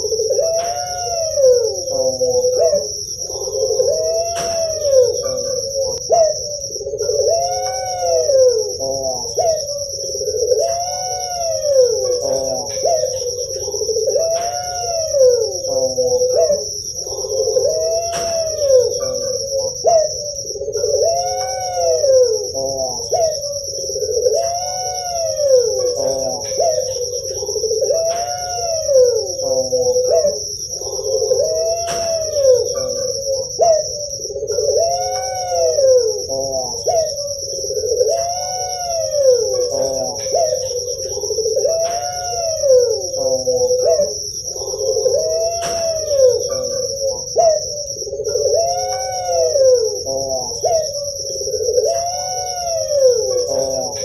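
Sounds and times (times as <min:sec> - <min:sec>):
dove cooing: 0:00.0 - 0:54.0
high-pitched buzz: 0:00.0 - 0:54.0.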